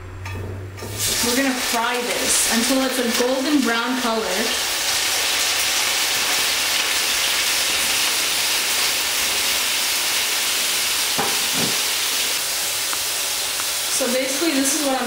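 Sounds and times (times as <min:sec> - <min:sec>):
tofu sizzling in oil: 0:00.9 - 0:15.0.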